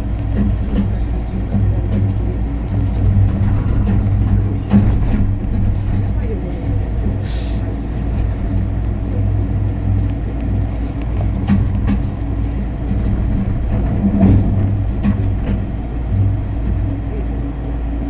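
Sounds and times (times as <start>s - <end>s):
suspended rail car rumbling: 0.0s - 18.0s.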